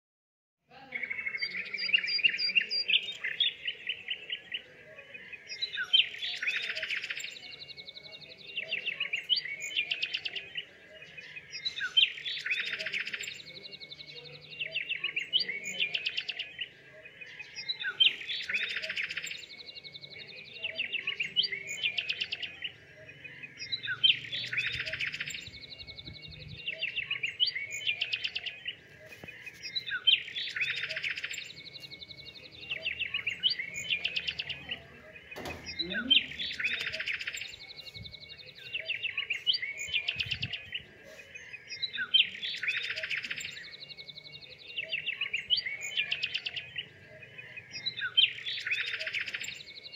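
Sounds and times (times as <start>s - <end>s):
small birds chirping: 0.7s - 49.9s.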